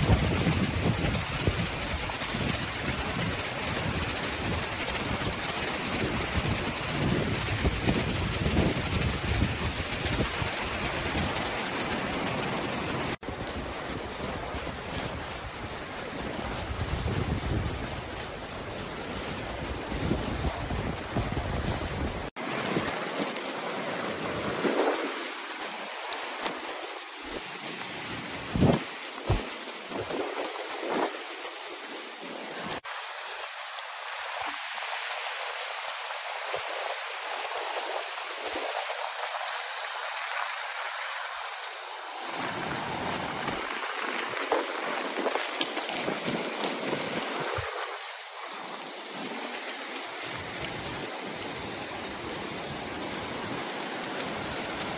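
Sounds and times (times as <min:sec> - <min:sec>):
river rushing hiss: 0:00.0 - 0:54.9.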